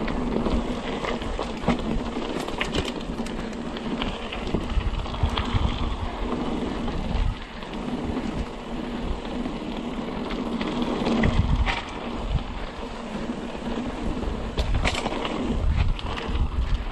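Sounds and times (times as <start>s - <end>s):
bike rattling over bumps: 0.0s - 16.9s
bike tyres rolling on dirt: 0.0s - 16.9s
wind buffeting microphone: 0.0s - 16.9s.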